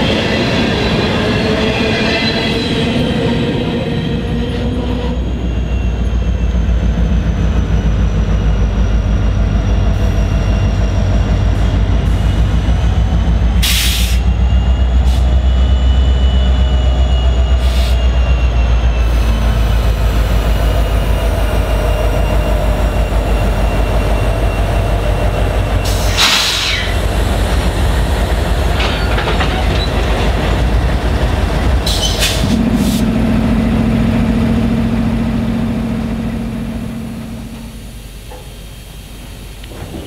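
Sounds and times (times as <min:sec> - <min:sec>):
diesel locomotive engine rumble: 0:00.0 - 0:40.0.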